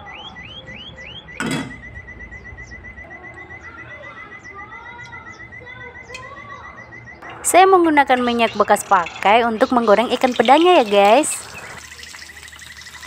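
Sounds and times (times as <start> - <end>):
high chirps: 0.0 - 13.0.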